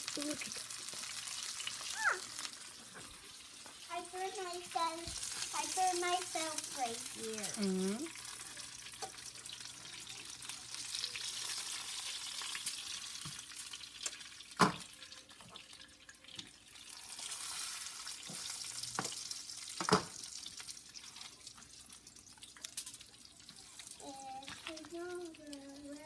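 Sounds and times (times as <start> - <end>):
meat sizzling in a pan: 0.0 - 26.0.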